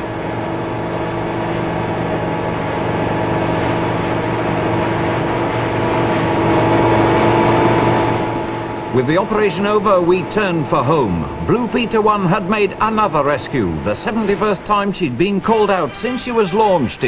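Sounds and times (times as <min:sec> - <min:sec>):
helicopter hovering drone: 0:00.0 - 0:17.0.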